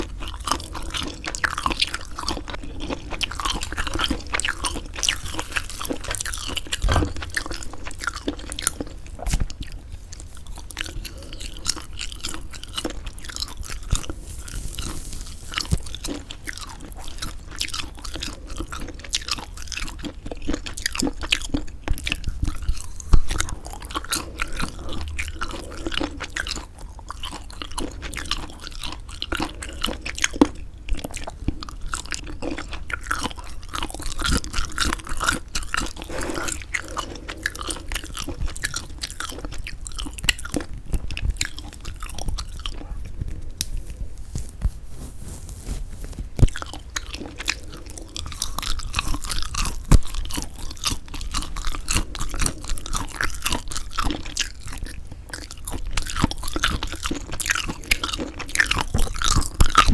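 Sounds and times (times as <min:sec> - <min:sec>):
wet chewing of dried squid: 0:00.0 - 0:59.9.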